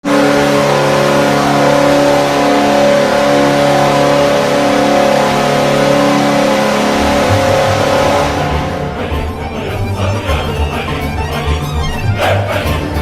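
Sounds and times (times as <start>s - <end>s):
hockey goal horn: 0.0s - 12.3s.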